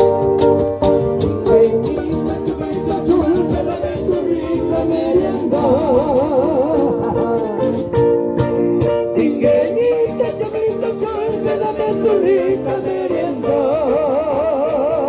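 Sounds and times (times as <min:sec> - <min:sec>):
live band playing: 0:00.0 - 0:15.0
person singing: 0:01.3 - 0:15.0.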